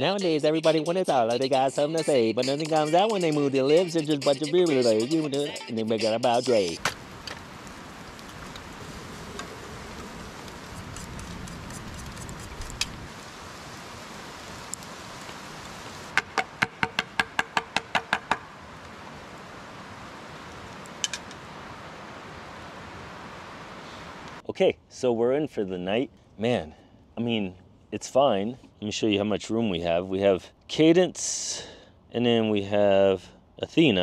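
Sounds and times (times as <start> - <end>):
outdoor background hiss: 0.0 - 34.0.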